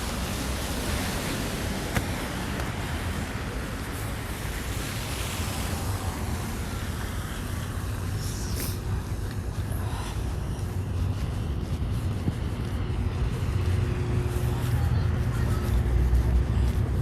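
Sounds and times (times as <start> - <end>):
passing traffic: 0.0 - 17.0
wind on microphone: 0.0 - 17.0.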